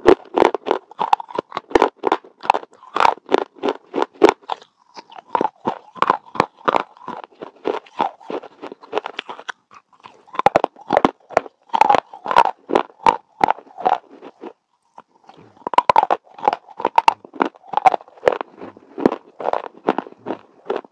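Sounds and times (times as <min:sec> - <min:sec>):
person crunching baked clay: 0:00.0 - 0:20.9.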